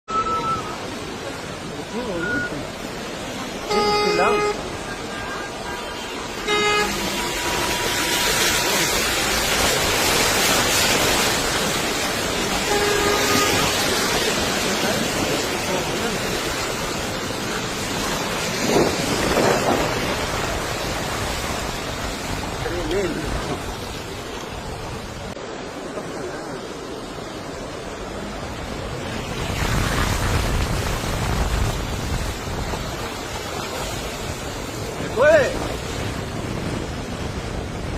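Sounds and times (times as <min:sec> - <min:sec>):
heavy rain pouring: 0:00.1 - 0:37.9.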